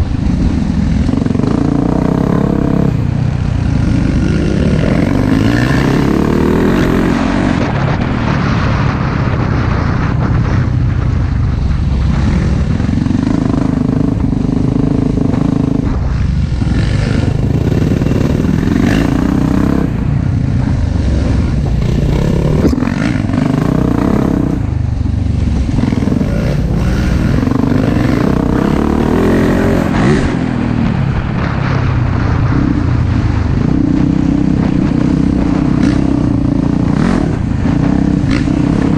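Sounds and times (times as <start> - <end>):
dirt bike engine revving: 0.0 - 10.6, 11.6 - 38.9.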